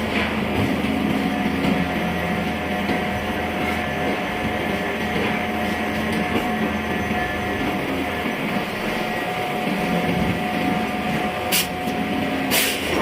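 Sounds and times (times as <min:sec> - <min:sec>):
machinery rumble with hum: 0:00.0 - 0:13.0.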